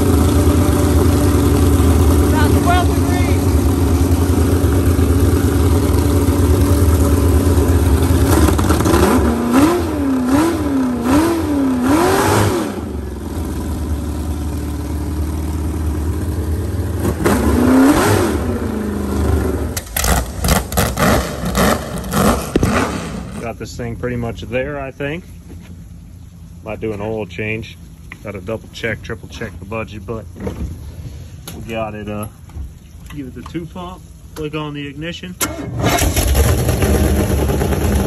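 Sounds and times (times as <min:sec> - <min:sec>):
boat engine idling and revving: 0:00.0 - 0:32.8, 0:35.6 - 0:38.0.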